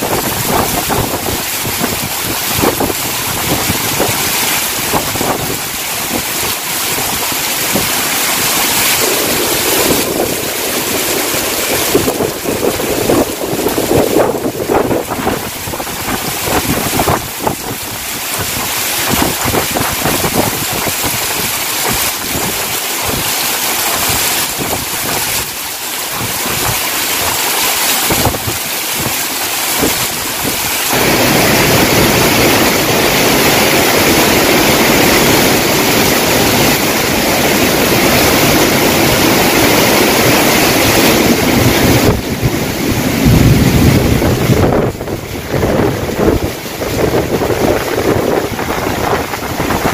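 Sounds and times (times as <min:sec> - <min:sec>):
gusting wind: 0:00.0 - 0:49.9
heavy rain downpour: 0:00.0 - 0:49.9
wind buffeting microphone: 0:00.0 - 0:49.9.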